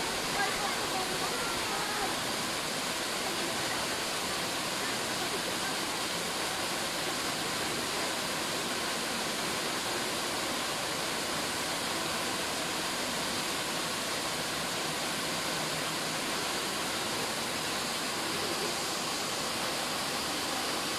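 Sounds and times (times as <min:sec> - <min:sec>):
waterfall pouring over rock: 0:00.0 - 0:20.9.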